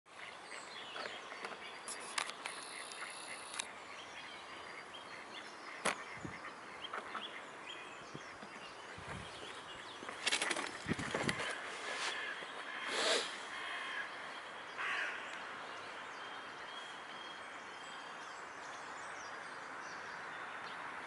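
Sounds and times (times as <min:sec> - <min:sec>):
small birds chirping: 0:00.1 - 0:20.9.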